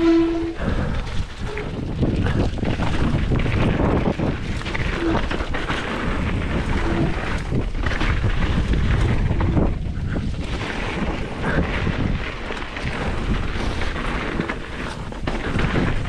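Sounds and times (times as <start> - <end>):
bike rattle and tyre noise: 0.0 - 16.0
wind buffeting microphone: 0.0 - 16.0.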